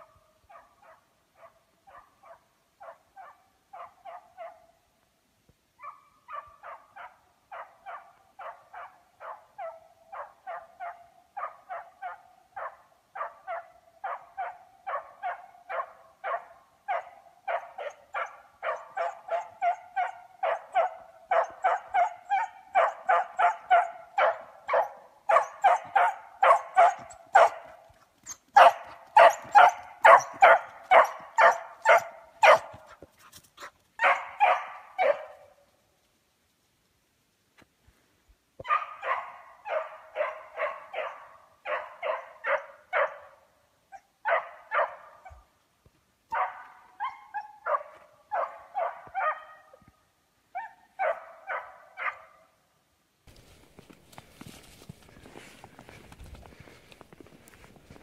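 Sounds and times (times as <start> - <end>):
hound barking: 0.0 - 4.8, 5.8 - 35.6, 38.6 - 45.5, 46.3 - 49.9, 50.5 - 52.6.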